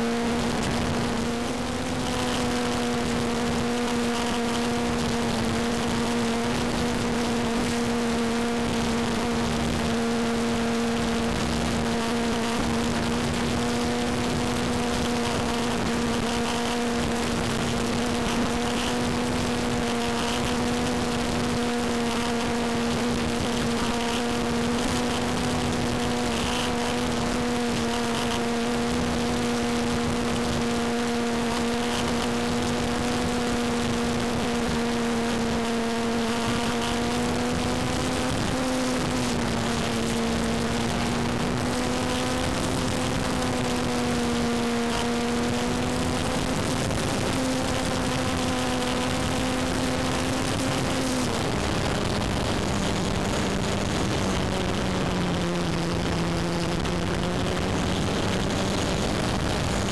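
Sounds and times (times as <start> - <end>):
electric motor and propeller whining: 0.0 - 59.9
wind rushing over microphone: 0.0 - 59.9.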